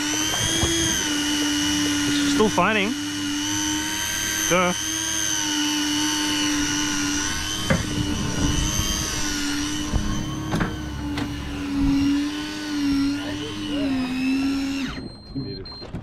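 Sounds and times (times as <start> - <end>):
fishing reel motor whine: 0.0 - 15.9.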